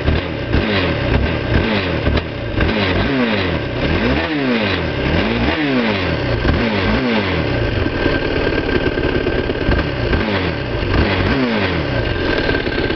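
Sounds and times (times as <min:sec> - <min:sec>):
engine revving and idling: 0:00.0 - 0:12.9.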